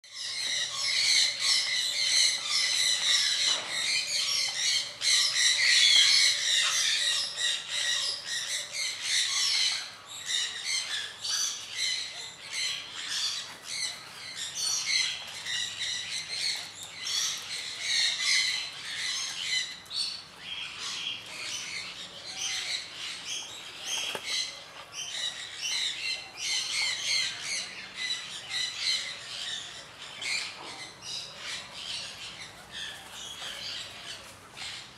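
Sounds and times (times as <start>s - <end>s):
many birds chirping and squawking: 0.0s - 34.9s.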